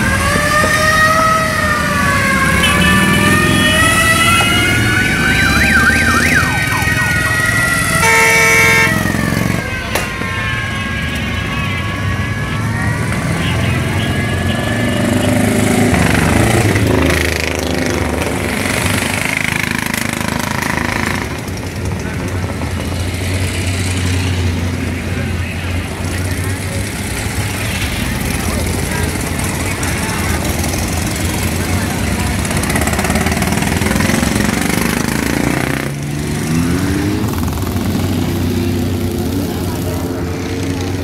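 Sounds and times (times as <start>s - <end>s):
motorcycles riding past: 0.0s - 41.0s.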